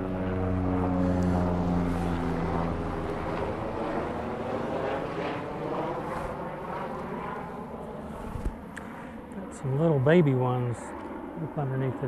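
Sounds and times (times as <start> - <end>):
engine hum: 0.0 - 10.2.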